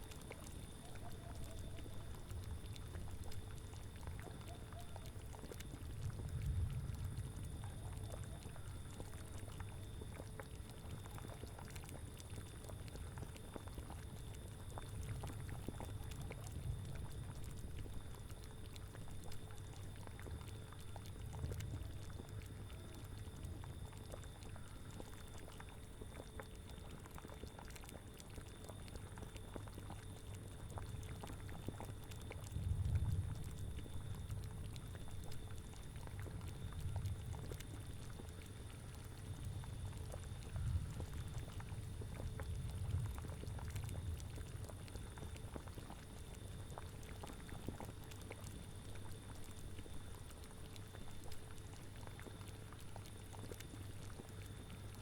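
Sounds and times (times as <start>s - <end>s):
low rumble of wind: 0.0s - 26.4s, 30.6s - 48.5s
cauldron bubbling: 0.0s - 55.0s.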